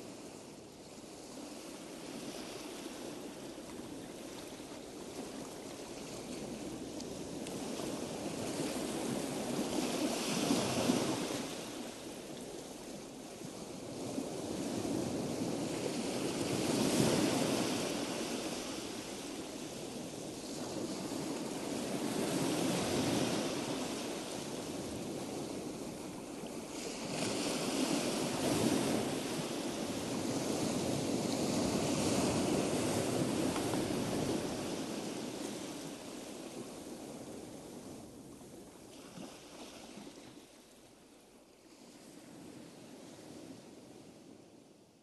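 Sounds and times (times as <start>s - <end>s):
sea waves washing in: 1.1s - 41.0s.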